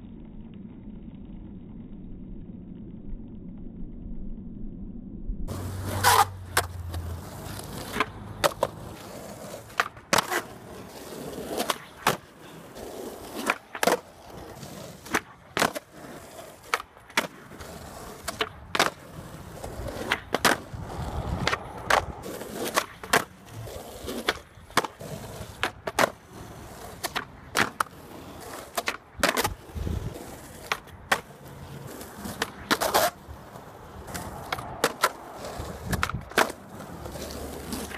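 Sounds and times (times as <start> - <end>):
skateboard wheels rolling on asphalt: 0.0 - 3.8, 5.5 - 37.9
skateboard deck clacking: 5.5 - 37.9.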